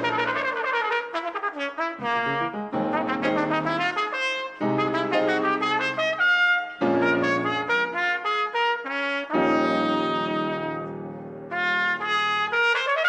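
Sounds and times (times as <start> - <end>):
piano chords: 0.0 - 1.0, 2.0 - 8.3, 9.3 - 12.6
trumpet playing short notes: 0.0 - 13.0.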